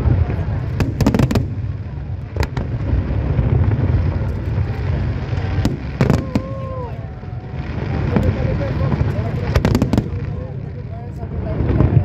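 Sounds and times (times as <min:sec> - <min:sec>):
fireworks bangs: 0:00.0 - 0:12.0
low booming rumble: 0:00.0 - 0:12.0.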